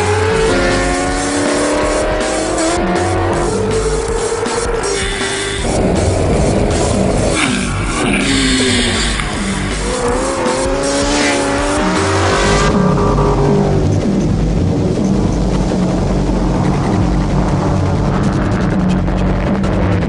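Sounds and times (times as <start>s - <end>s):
background music: 0.0s - 20.0s
car engine revving: 0.0s - 20.0s.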